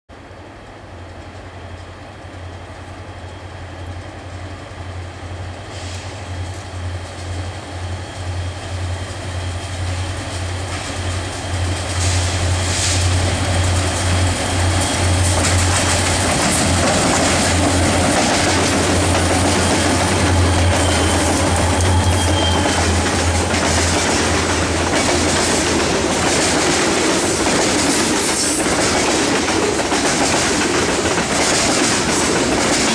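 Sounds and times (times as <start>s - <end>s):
diesel locomotive engine drone: 0.1s - 32.9s.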